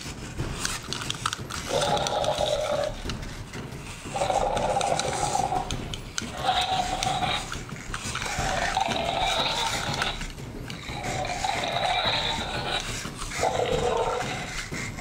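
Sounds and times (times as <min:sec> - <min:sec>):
toy electronic roars: 0:00.6 - 0:03.2, 0:04.0 - 0:15.0.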